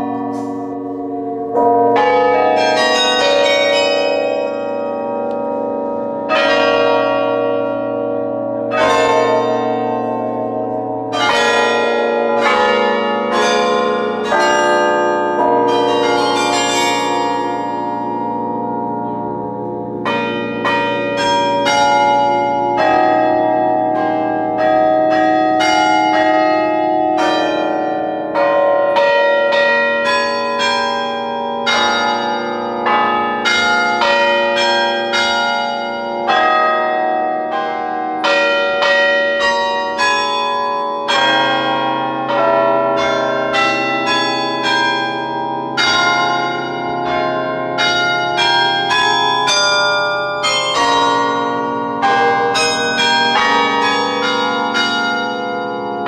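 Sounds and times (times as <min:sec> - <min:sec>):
carillon bells playing tune: 0:00.0 - 0:56.0.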